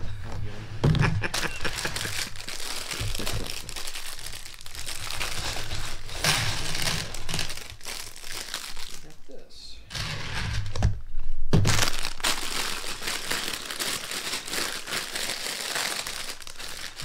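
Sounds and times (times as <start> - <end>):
plastic bags crinkling: 1.3 - 11.0, 11.6 - 17.0.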